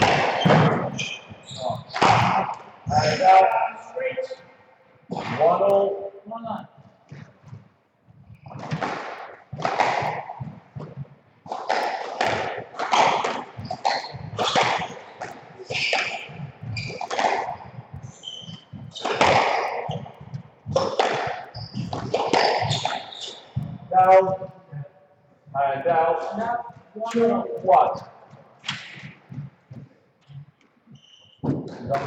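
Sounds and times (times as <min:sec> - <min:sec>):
squash ball hitting rackets and walls: 0:00.0 - 0:03.7, 0:05.1 - 0:05.9, 0:08.3 - 0:24.5, 0:26.3 - 0:32.0
shoes squeaking on wooden floor: 0:00.0 - 0:05.8, 0:06.5 - 0:32.0.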